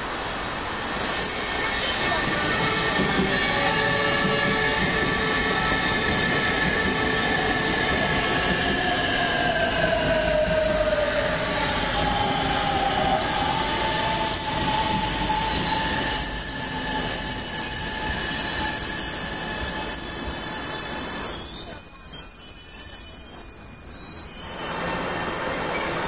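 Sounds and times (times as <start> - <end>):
passing train rumble: 0.0 - 21.2
train wheels squealing: 0.0 - 26.0.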